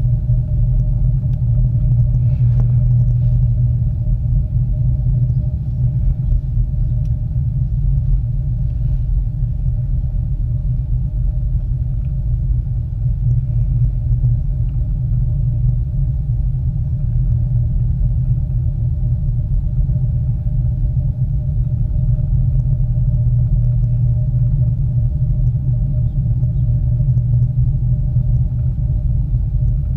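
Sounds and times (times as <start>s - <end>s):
cable car rumbling: 0.0s - 29.9s
faint steady hum: 0.0s - 29.9s.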